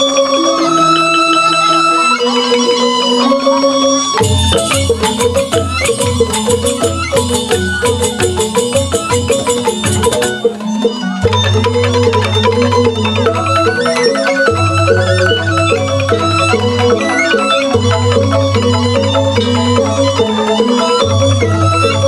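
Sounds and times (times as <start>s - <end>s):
bamboo flutes: 0.0s - 22.0s
bamboo xylophones struck with mallets: 0.0s - 22.0s
metallophone notes: 0.0s - 22.0s
hand drums: 4.2s - 22.0s.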